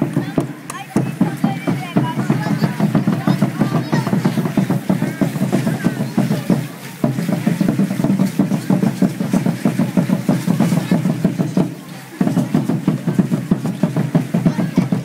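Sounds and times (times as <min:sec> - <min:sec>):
fast steady drumming: 0:00.0 - 0:15.0.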